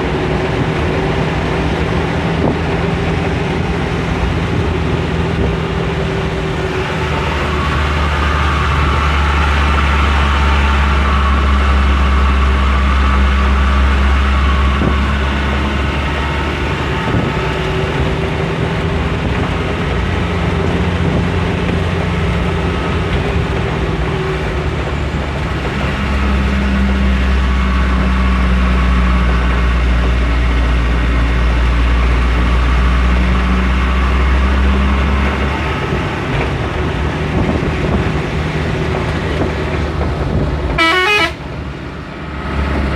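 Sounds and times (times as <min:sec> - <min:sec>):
truck diesel engine droning: 0:00.0 - 0:42.9.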